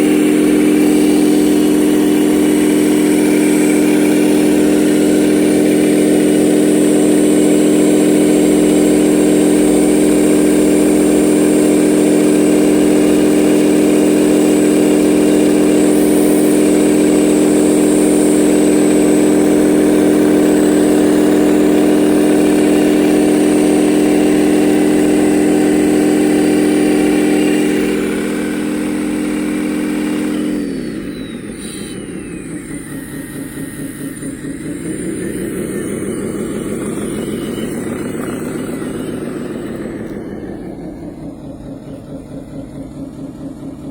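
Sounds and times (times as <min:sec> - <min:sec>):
model machine motor humming: 0:00.0 - 0:43.9.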